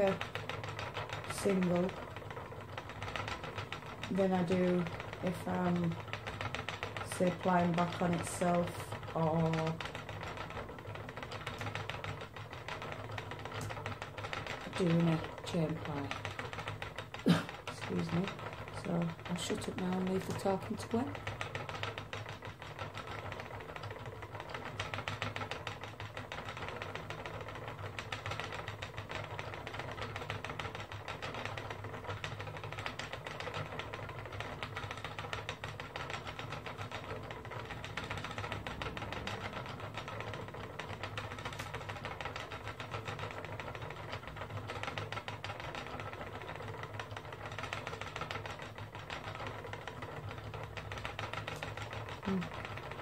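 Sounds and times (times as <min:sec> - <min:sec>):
spinning wheel whirring: 0:00.0 - 0:53.0.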